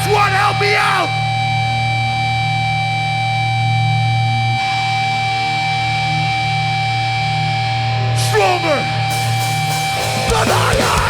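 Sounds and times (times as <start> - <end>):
electric guitar and bass drone: 0.0 - 11.0.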